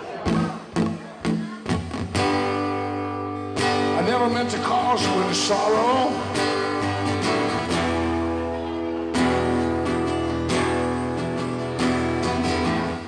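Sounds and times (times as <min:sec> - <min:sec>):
acoustic guitar strumming chords: 0:00.1 - 0:13.0.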